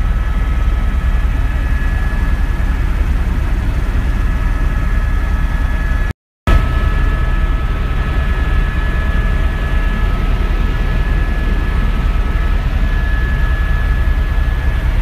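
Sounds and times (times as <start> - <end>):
helicopter cabin rumble: 0.0 - 15.0
high whining tones: 1.2 - 15.0.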